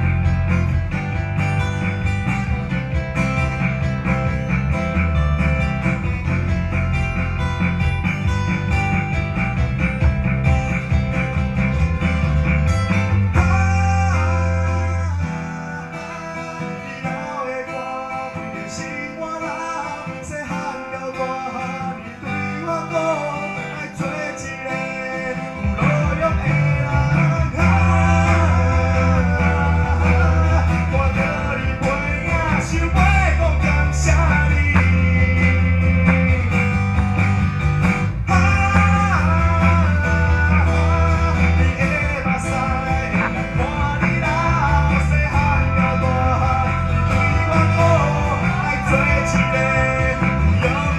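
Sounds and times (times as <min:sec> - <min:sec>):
live band playing: 0:00.0 - 0:16.8, 0:21.9 - 0:50.9
electric bass: 0:00.0 - 0:17.0, 0:25.0 - 0:50.9
acoustic guitar: 0:00.0 - 0:50.9.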